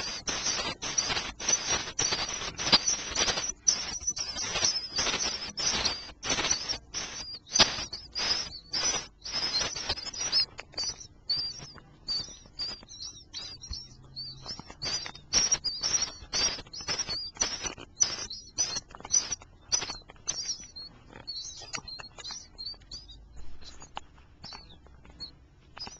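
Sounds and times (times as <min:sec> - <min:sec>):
baby birds chirping: 0:00.0 - 0:25.9.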